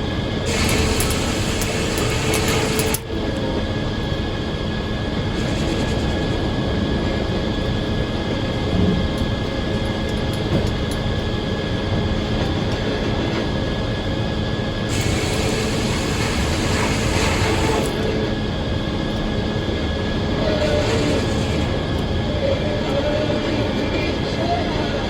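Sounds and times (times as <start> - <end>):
circular sawmill running: 0.0 - 25.0.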